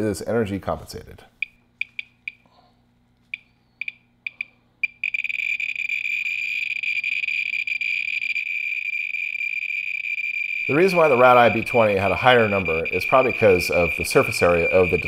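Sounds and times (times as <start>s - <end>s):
survey meter high chirps and tone: 1.4s - 2.4s, 3.3s - 15.0s.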